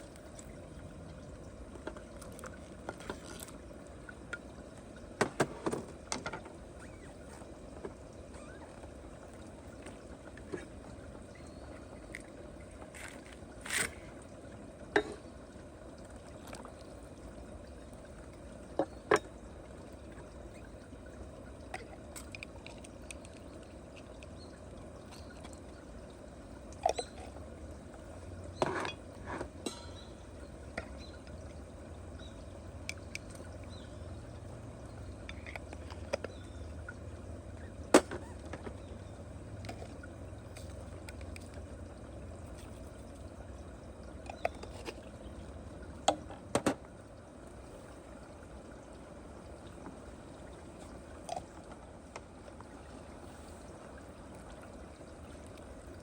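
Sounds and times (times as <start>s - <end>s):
water trickling or bubbling: 0.0s - 56.0s.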